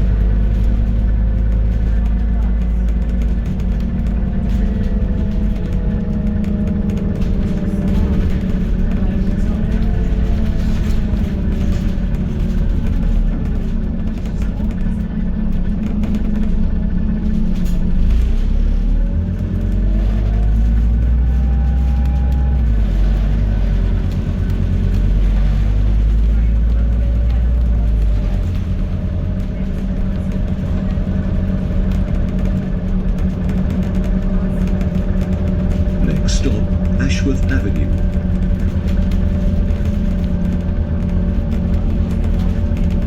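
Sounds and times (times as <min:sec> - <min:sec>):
bus diesel engine rumbling: 0:00.0 - 0:43.0
drivetrain whine: 0:00.0 - 0:43.0.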